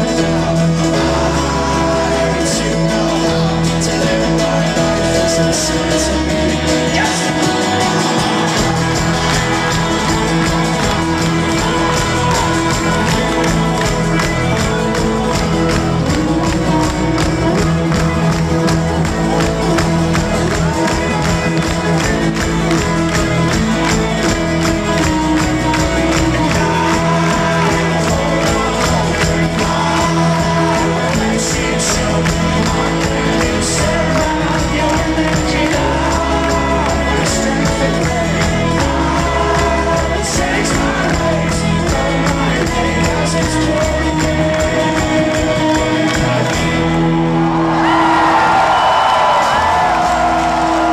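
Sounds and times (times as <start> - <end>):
crowd shouting: 0.0 - 43.0, 45.5 - 50.9
crowd cheering: 0.0 - 50.9
folk-rock band playing: 0.0 - 50.9
person singing: 0.0 - 50.9.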